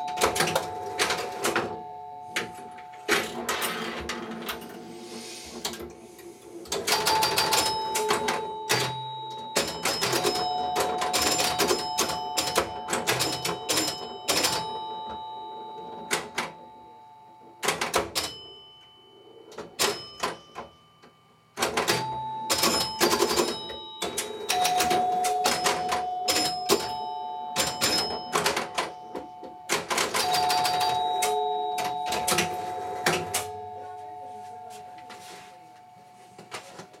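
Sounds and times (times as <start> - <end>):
door chimes ringing: 0.0 - 4.8, 6.7 - 37.0
pinball relays clicking and clattering: 0.0 - 6.0, 6.6 - 16.6, 17.6 - 18.6, 19.4 - 20.7, 21.6 - 34.0.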